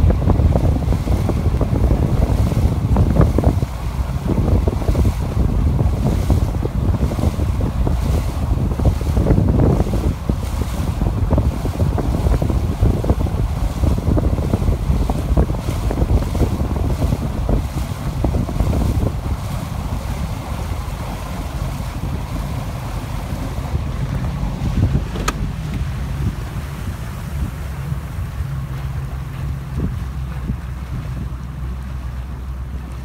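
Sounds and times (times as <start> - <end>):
low rumble: 0.0 - 33.0
water noise: 0.0 - 33.0
wind buffeting microphone: 0.0 - 33.0.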